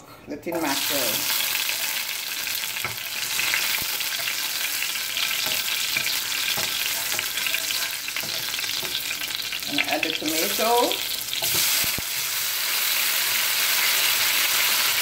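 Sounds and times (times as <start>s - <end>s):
garlic and onion sizzling in oil: 0.5s - 15.0s.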